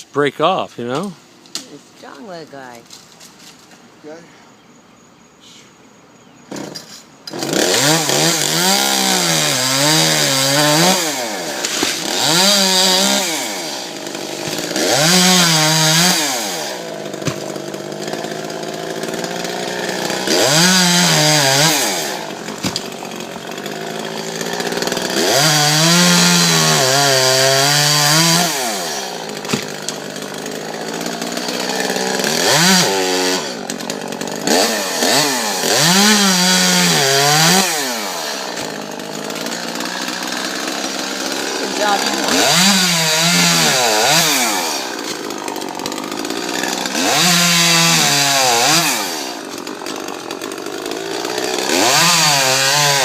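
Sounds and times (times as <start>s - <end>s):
chainsaw engine revving: 6.5s - 53.0s.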